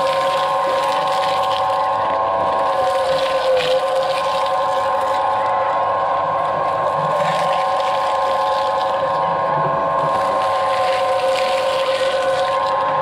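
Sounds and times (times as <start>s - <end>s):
shredder gear whine: 0.0s - 13.0s.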